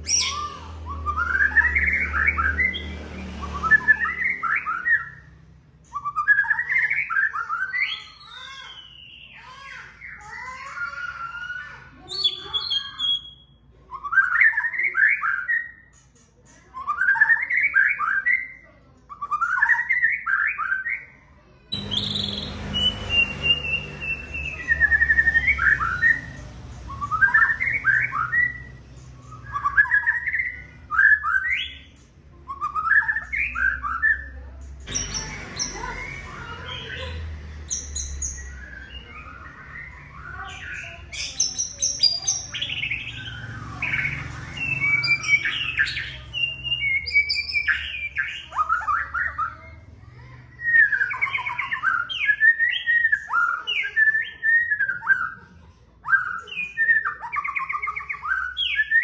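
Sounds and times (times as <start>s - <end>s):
songbird whistles and chirps: 0.0s - 55.4s, 56.0s - 59.0s.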